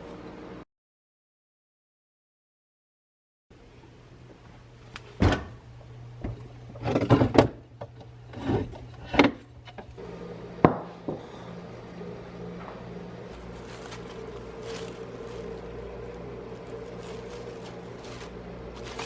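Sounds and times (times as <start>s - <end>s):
low steady hum: 3.5s - 19.0s.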